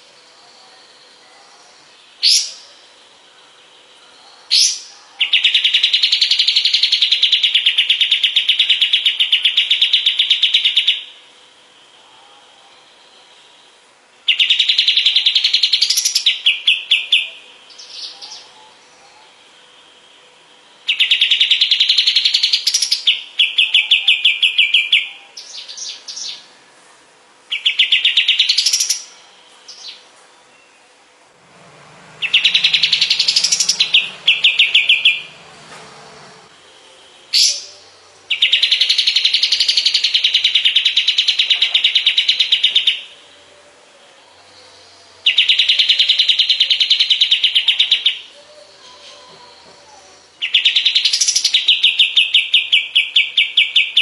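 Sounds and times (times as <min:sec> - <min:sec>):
bird singing with buzzing trill: 0:00.0 - 0:26.8, 0:27.4 - 0:54.0.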